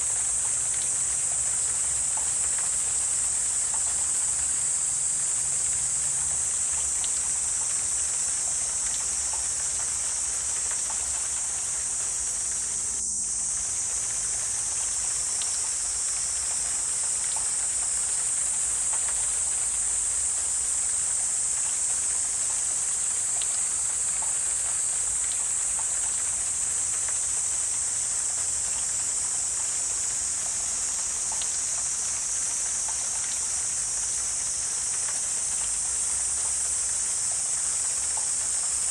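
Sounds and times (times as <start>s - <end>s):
faint ticks: 0.0s - 38.9s
insect chorus drone: 0.0s - 38.9s.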